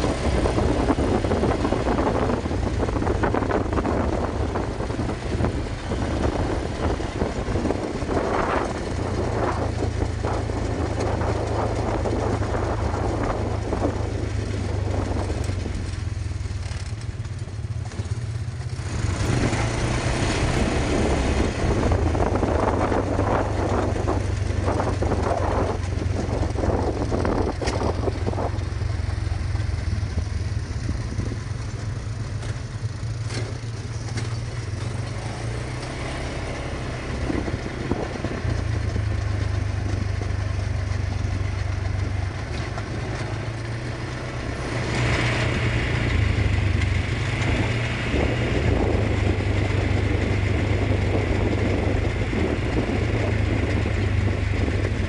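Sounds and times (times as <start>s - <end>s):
quad bike engine running: 0.0s - 55.0s
rattling and clatter: 0.0s - 55.0s.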